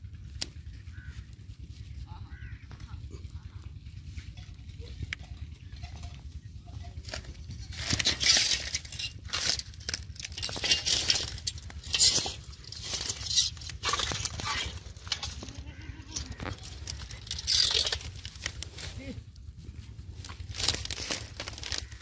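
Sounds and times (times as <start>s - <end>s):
steady low hum: 0.0s - 22.0s
twigs rustling and crackling: 0.2s - 22.0s.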